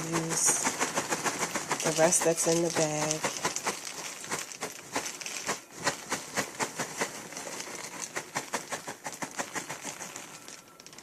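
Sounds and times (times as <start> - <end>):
cereal pouring into bowl: 0.0 - 11.0.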